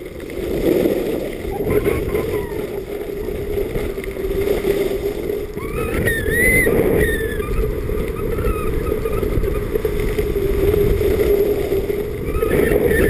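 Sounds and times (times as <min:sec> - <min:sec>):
skis sliding on snow: 0:00.0 - 0:13.0
wind on microphone: 0:00.0 - 0:13.0.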